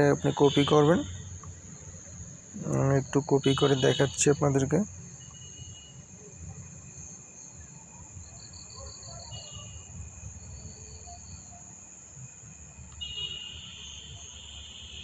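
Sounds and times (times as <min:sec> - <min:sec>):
insects trilling: 0:00.0 - 0:15.0
pulsed insect chirping: 0:00.0 - 0:15.0.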